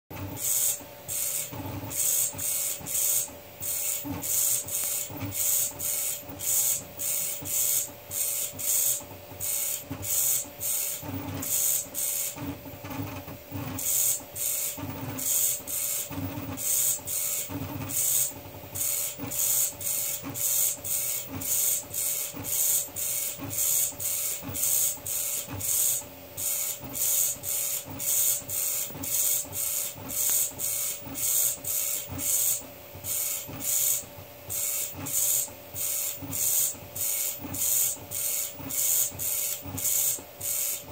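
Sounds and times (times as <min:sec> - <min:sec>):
pen plotter strokes: 0:00.4 - 0:40.8.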